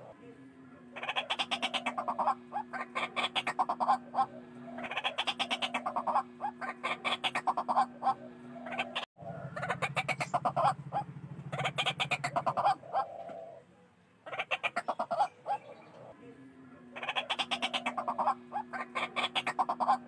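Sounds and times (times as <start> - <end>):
waterhen harsh repeated calls: 0.9 - 13.6, 14.2 - 16.1, 16.9 - 20.0.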